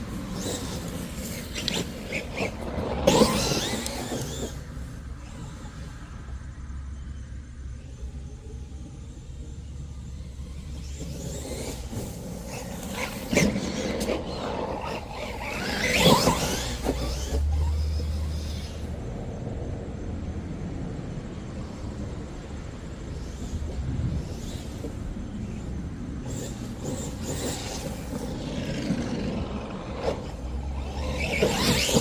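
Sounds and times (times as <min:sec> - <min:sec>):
rc truck motor running: 0:00.0 - 0:06.3, 0:07.8 - 0:19.5, 0:21.5 - 0:32.0.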